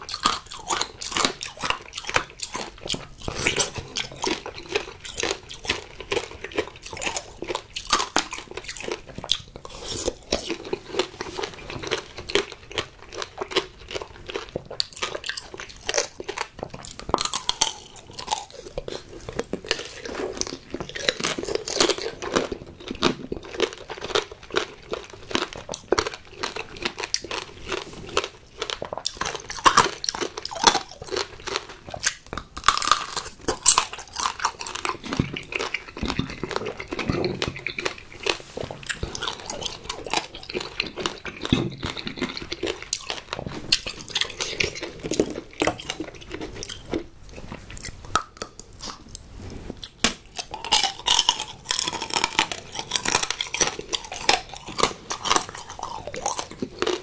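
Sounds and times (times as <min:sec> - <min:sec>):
candy shell crunching: 0:00.0 - 0:47.0, 0:49.8 - 0:57.0.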